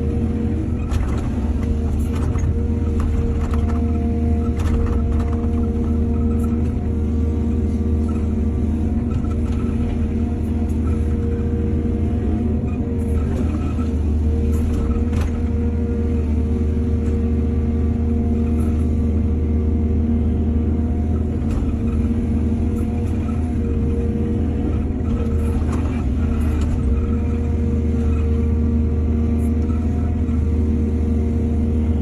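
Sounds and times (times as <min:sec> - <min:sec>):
diesel engine humming: 0:00.0 - 0:32.0.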